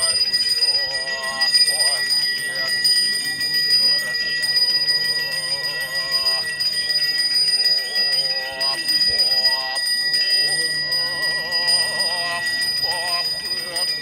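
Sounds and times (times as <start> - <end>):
hand bell ringing: 0.0 - 14.0
person chanting prayers: 0.0 - 14.0.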